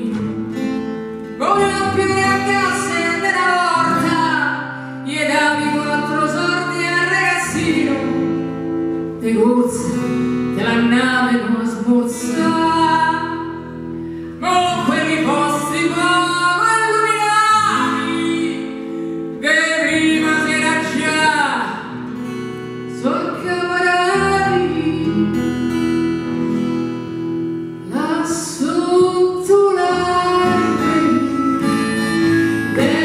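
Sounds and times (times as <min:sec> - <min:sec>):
woman singing into a microphone: 0:00.0 - 0:22.0, 0:22.7 - 0:26.0, 0:27.6 - 0:33.0
acoustic guitar: 0:00.0 - 0:33.0.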